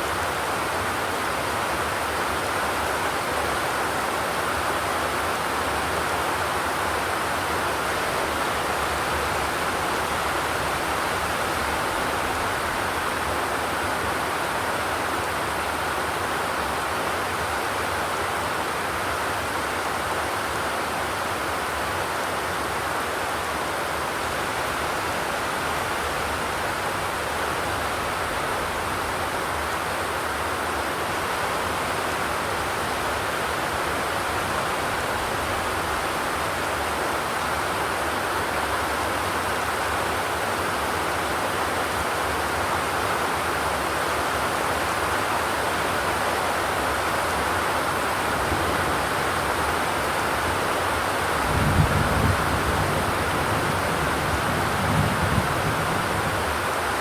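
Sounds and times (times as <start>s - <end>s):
rain on a metal roof: 0.0s - 57.0s.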